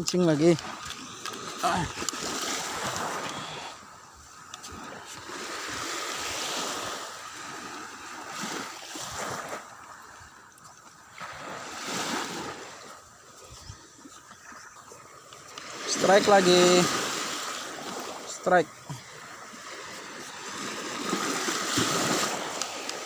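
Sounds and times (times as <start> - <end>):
wind: 0.0 - 23.0
sea waves washing in: 0.4 - 23.0.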